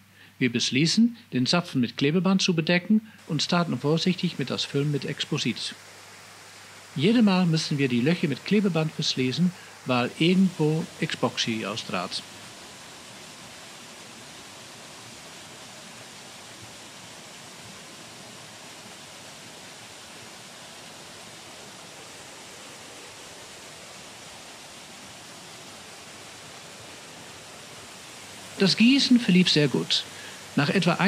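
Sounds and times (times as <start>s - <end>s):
flowing water rushing: 3.1s - 31.0s.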